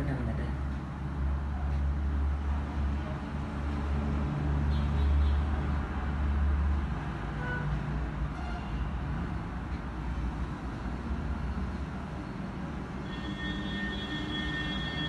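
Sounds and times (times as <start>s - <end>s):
vehicle traffic engine rumble: 0.0s - 15.0s.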